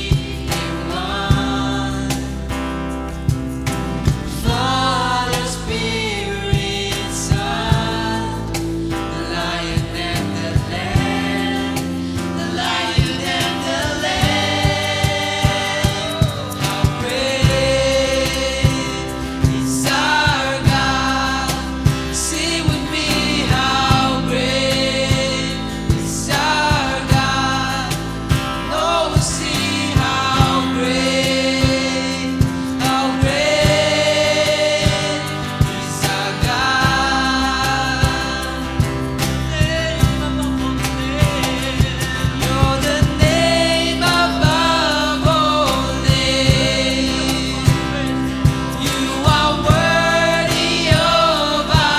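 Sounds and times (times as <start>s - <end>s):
worship song singing with band: 0.0s - 51.9s.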